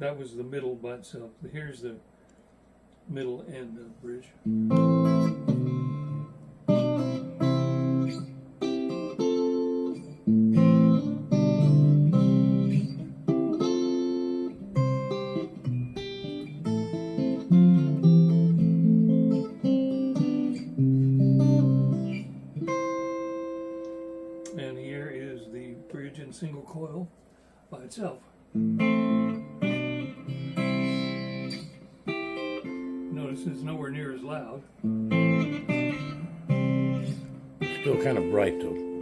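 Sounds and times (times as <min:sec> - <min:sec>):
electric guitar chords and notes: 0:04.4 - 0:26.3, 0:28.4 - 0:39.0.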